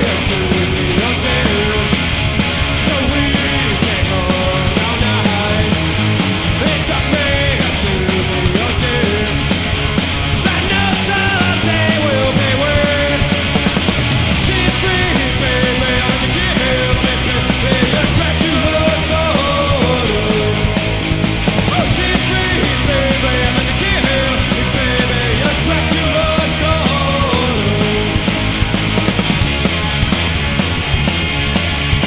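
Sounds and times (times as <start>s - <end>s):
bass guitar: 0.0s - 32.0s
distorted electric guitars: 0.0s - 32.0s
drums keeping a steady beat: 0.0s - 32.0s.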